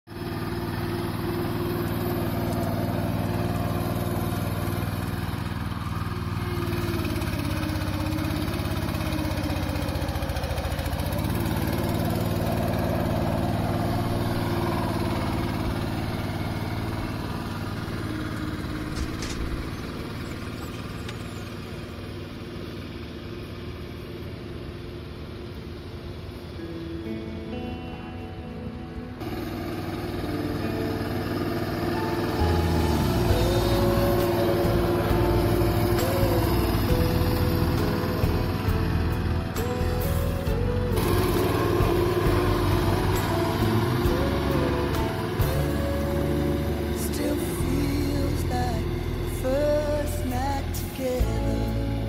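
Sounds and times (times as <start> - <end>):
ride-on roller engine running: 0.1 - 52.0.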